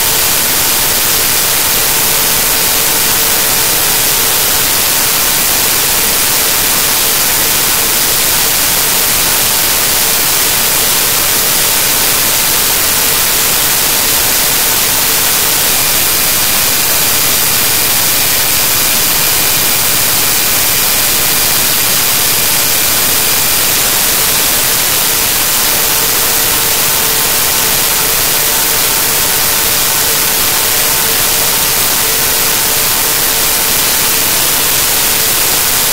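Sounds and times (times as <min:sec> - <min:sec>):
loud static hiss: 0:00.0 - 0:35.9.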